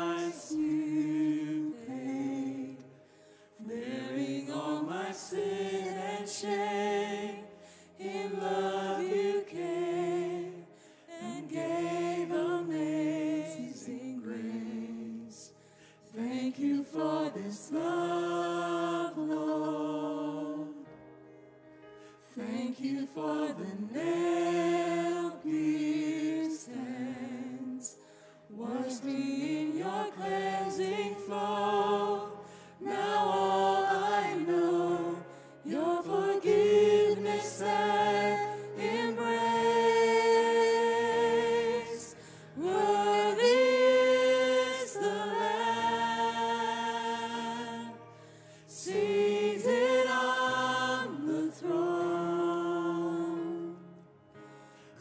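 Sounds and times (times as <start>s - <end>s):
voices singing worship song: 0.0s - 21.1s, 22.0s - 55.0s.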